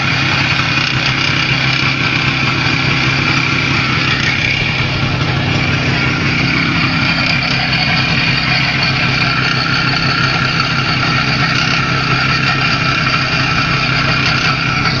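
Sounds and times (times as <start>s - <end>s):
engine knock: 0.0s - 15.0s
motorcycle engine idling: 0.0s - 15.0s.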